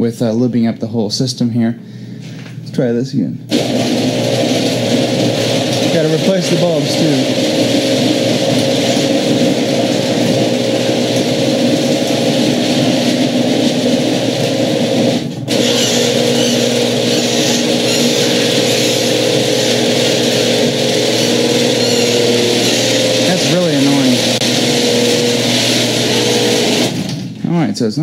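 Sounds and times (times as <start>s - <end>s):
garage door opener motor drone: 3.5s - 27.4s
garage door rollers running: 3.5s - 27.4s.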